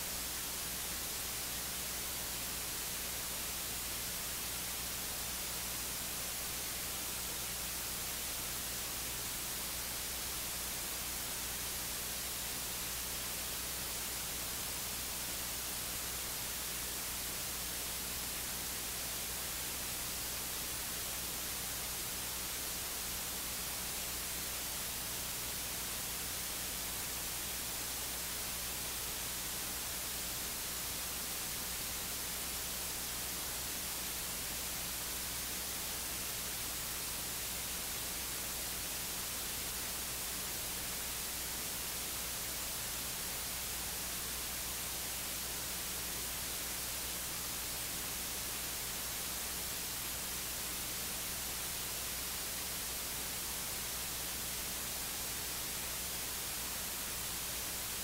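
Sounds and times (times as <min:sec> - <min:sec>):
static hiss: 0:00.0 - 0:58.0.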